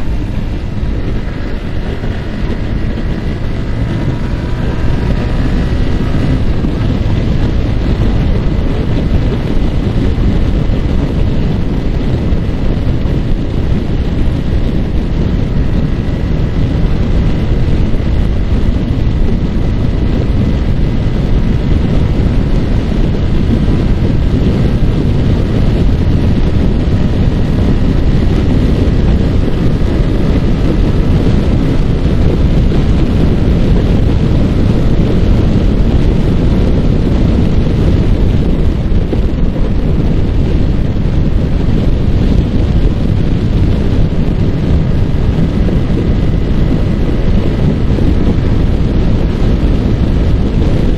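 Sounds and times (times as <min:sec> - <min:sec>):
motorcycle engine running: 0:00.0 - 0:50.9
wind rushing over microphone: 0:00.0 - 0:50.9.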